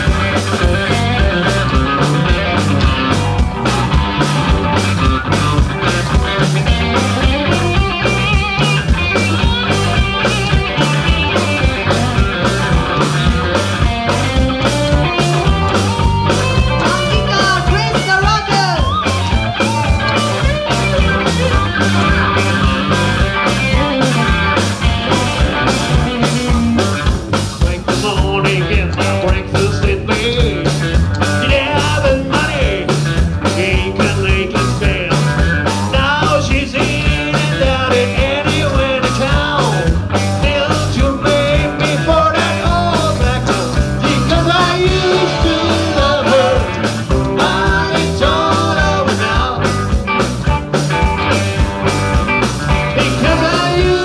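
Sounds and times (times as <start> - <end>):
drums steady beat: 0.0 - 54.0
electric guitars: 0.0 - 54.0
low bass line: 0.0 - 54.0.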